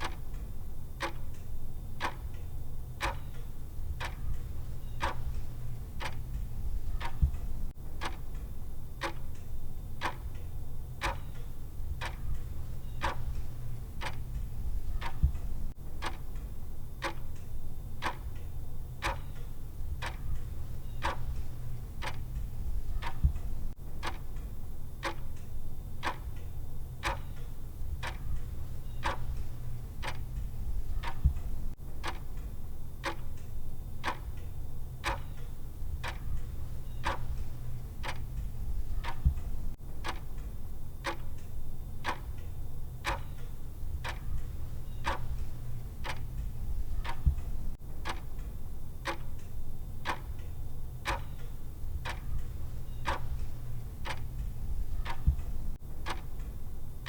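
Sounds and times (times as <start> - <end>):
low steady hum: 0.0 - 57.0
timer ticking: 0.0 - 57.0.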